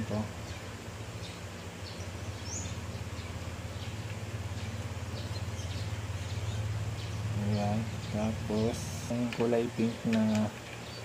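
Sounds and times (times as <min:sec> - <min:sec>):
faint bird chirps: 0:00.0 - 0:11.0
low background hum: 0:00.0 - 0:11.0.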